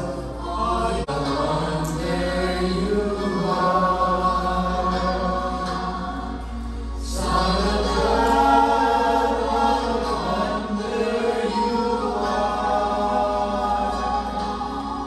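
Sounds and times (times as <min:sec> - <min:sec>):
men singing together: 0:00.0 - 0:06.4, 0:07.0 - 0:15.0.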